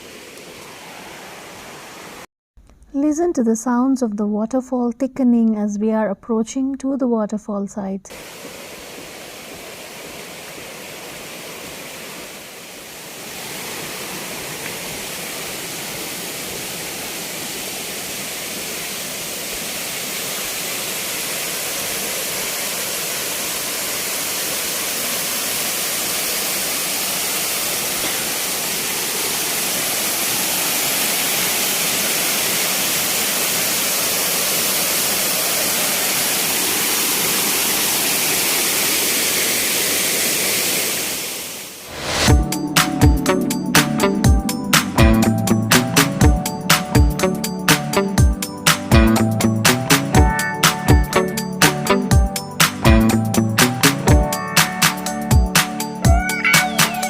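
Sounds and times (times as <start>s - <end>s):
waterfall rushing: 0.0s - 2.3s, 8.1s - 49.0s, 53.6s - 57.0s.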